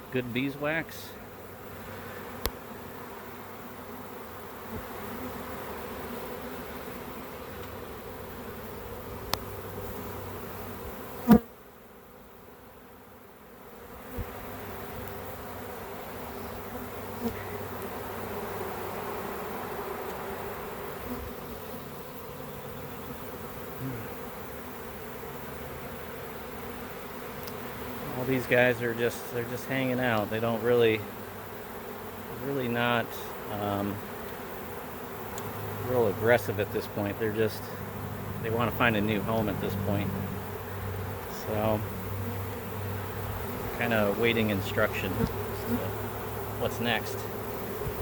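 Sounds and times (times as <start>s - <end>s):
bees buzzing: 0.0s - 48.0s.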